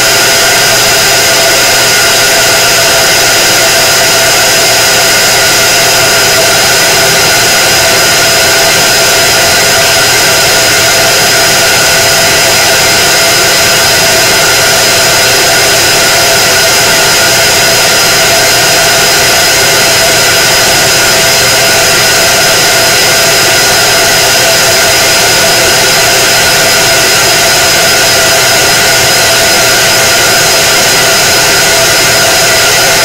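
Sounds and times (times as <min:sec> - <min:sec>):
constant high whine: 0:00.0 - 0:33.0
laser cutter fan noise: 0:00.0 - 0:33.0.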